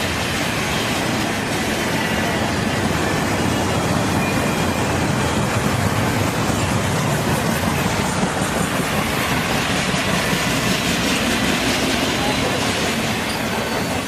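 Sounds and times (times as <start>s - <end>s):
train cars rolling on rails: 0.0s - 14.0s.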